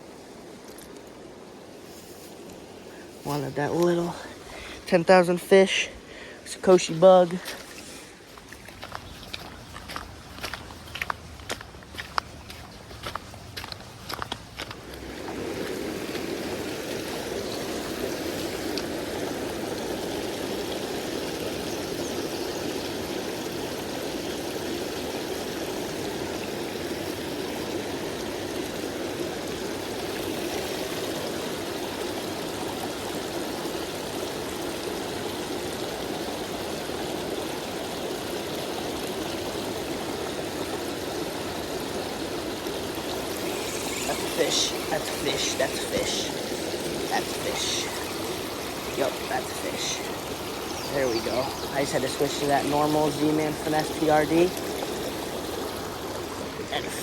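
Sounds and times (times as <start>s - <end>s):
creek water running over rocks: 0.0s - 57.0s.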